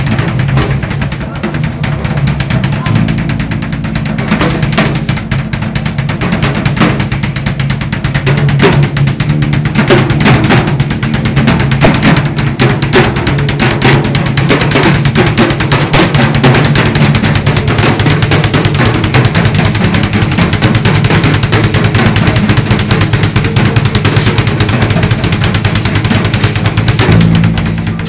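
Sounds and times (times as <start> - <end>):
drum kit played fast: 0.0 - 28.0.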